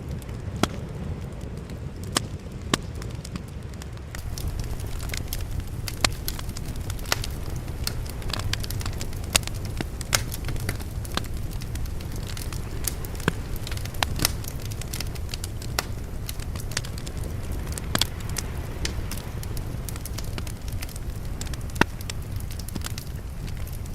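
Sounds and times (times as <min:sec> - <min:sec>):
fire crackling and popping: 0:00.0 - 0:23.9
low rumble: 0:04.2 - 0:23.9.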